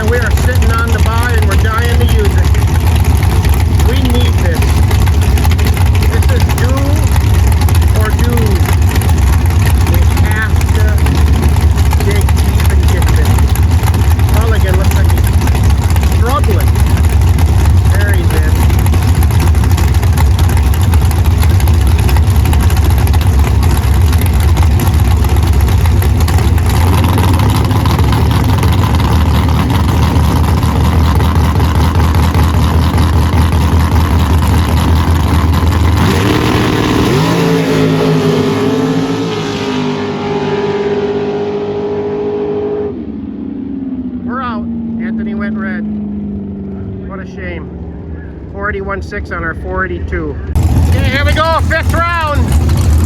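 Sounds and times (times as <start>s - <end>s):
drag race car engines roaring: 0.0s - 53.0s
engine holding steady pitch: 0.0s - 53.0s.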